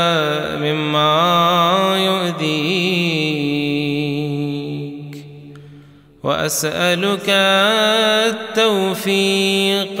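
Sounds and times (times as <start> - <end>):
man chanting melodic recitation: 0.0 - 5.5, 6.2 - 10.0.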